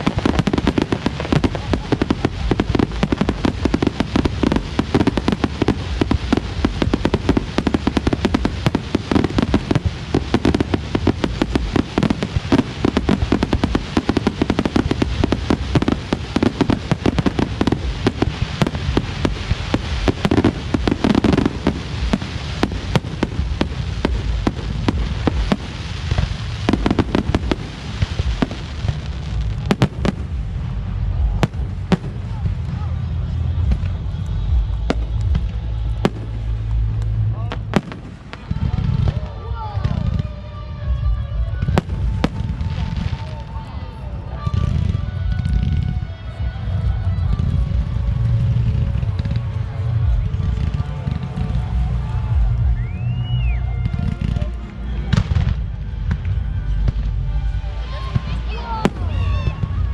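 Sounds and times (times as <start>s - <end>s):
fireworks bangs and crackles: 0.0s - 59.9s
low fireworks booms: 0.0s - 59.9s.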